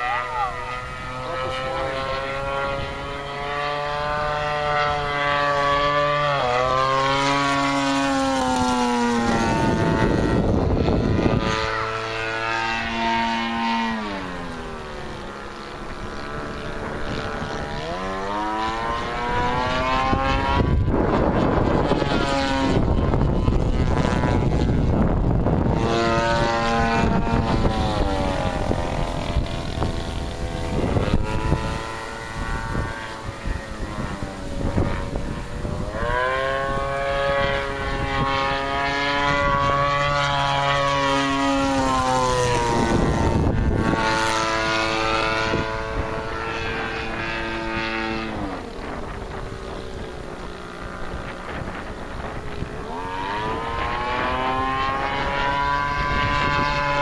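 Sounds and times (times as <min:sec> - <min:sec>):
model plane engine buzzing: 0:00.0 - 0:57.0.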